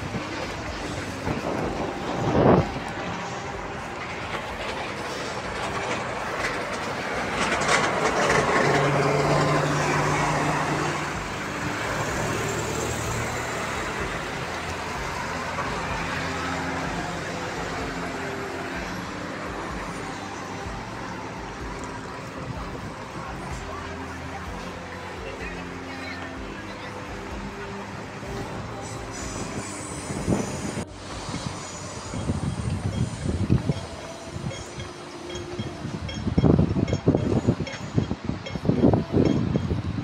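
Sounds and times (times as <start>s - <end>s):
heavy vehicle engine hum: 0.0s - 40.0s
street traffic noise: 0.0s - 40.0s.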